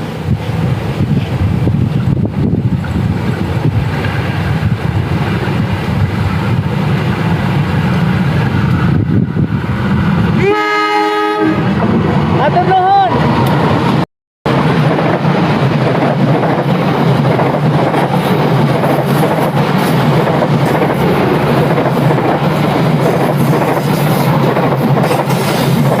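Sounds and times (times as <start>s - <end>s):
passenger train rolling past: 0.0s - 26.0s.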